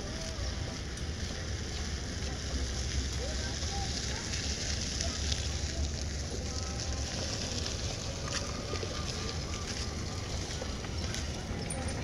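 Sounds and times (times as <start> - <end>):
faint distant voices: 0.0 - 12.0
wind: 0.0 - 12.0.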